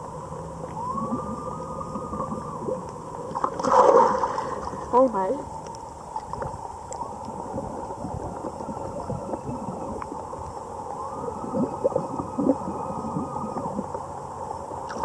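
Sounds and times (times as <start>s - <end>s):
steady underwater hum: 0.0s - 15.0s
gurgling bubbles: 0.7s - 5.1s, 6.2s - 15.0s.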